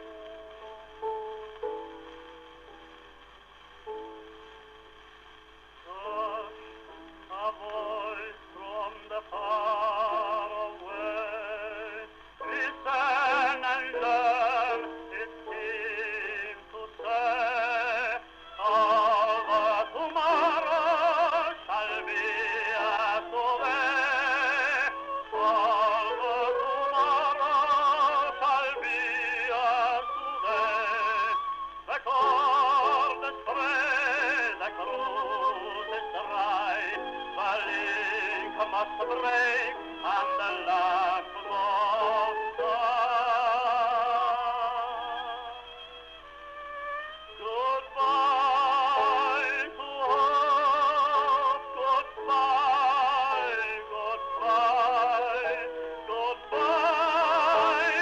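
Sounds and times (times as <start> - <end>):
operatic singing with vibrato: 5.8 - 58.0.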